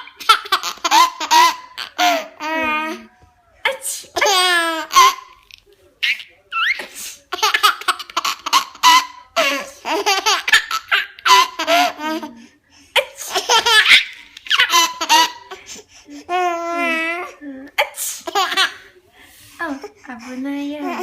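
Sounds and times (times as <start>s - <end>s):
baby laughing: 0.0s - 3.1s, 4.2s - 12.4s, 13.0s - 18.9s.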